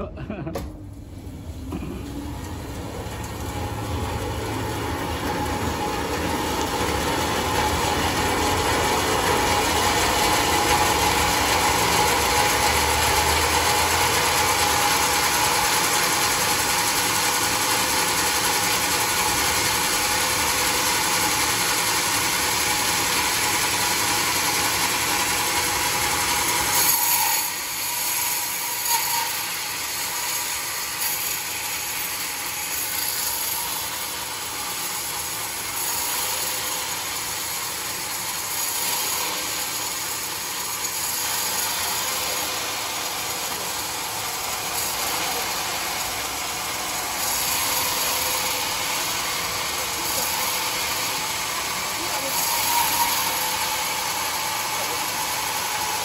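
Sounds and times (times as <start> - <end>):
band sawmill sawing log: 1.5 - 56.0.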